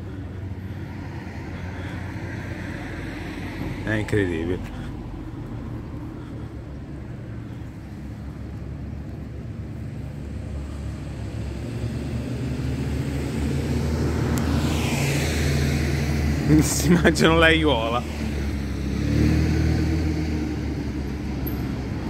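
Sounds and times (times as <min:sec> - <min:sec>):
tyre and air noise passing: 0:00.0 - 0:22.0
vehicle engine hum: 0:00.0 - 0:22.0.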